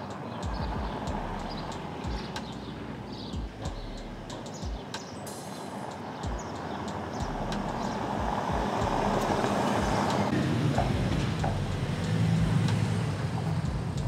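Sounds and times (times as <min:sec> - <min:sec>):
low car engine note: 0:00.0 - 0:04.8, 0:06.2 - 0:14.0
tyre and road noise on cobblestones: 0:00.0 - 0:14.0.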